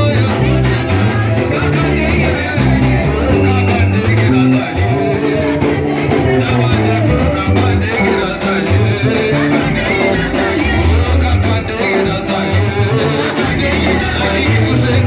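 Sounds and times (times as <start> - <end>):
guitar: 0.0 - 15.0
person singing: 0.0 - 15.0
worship band music: 0.0 - 15.0.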